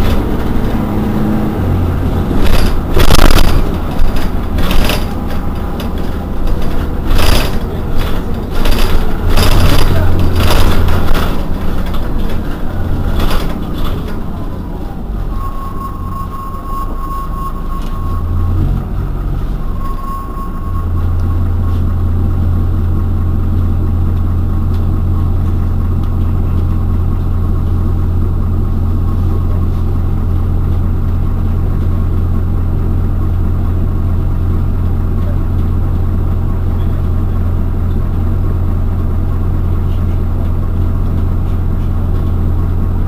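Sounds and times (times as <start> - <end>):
bus engine idling: 0.0 - 43.0.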